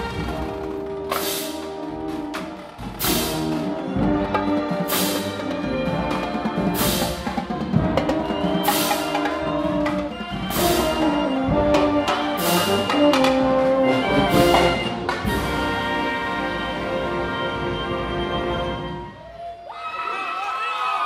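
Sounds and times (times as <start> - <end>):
brass band chords over drums: 0.0 - 19.2.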